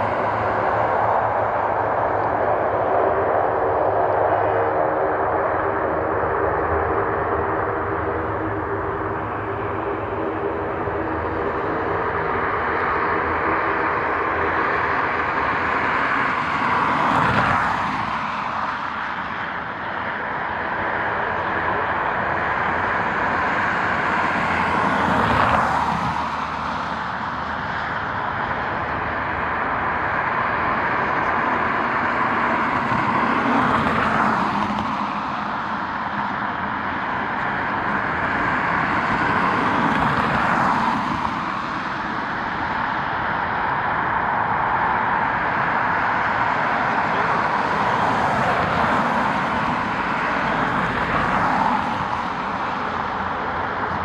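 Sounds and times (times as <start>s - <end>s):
steady engine rush: 0.0s - 54.0s
vehicles passing by: 0.0s - 54.0s.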